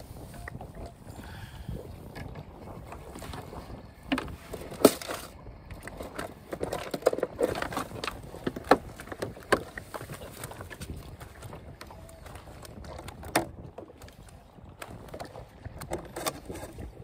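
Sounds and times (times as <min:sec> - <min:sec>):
knocks and taps on a boat: 0:02.1 - 0:05.1, 0:05.7 - 0:17.0.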